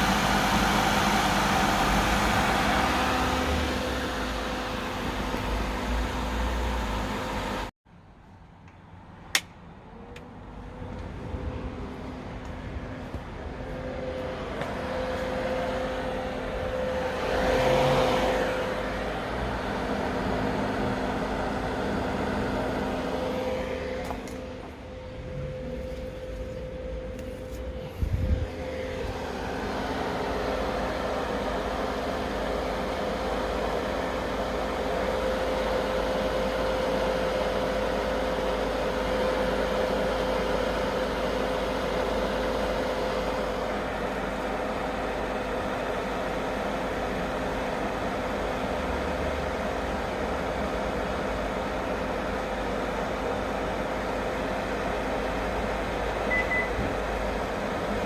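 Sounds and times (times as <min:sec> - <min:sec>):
diesel engine running: 0:00.0 - 0:07.7, 0:09.8 - 0:58.0
constant hum: 0:00.0 - 0:58.0.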